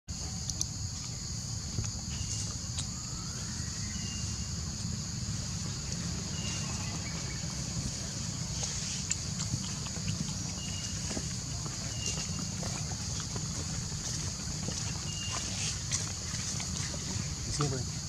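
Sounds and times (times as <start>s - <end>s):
insects droning: 0.1s - 18.0s
low rumble: 1.3s - 17.6s.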